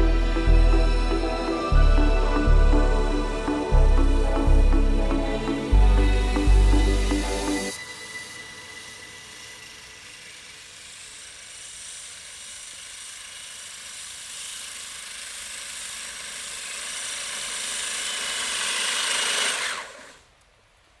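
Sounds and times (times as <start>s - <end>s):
electric motors whining: 0.0s - 20.4s.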